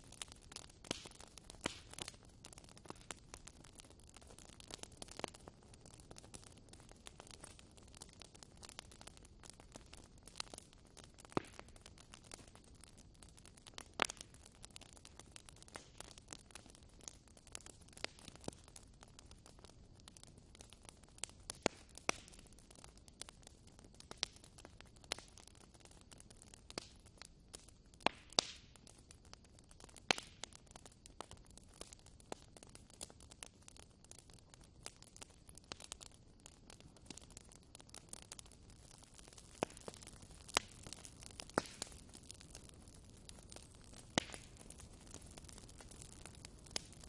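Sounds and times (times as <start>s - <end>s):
wood fire crackling: 0.0s - 47.0s
loud fire pops: 0.1s - 47.0s.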